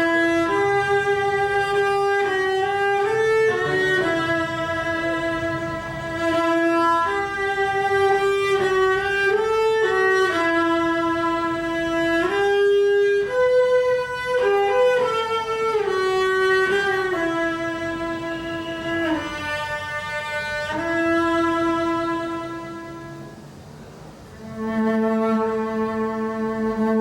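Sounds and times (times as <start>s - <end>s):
bowed string instrument melody: 0.0s - 27.0s.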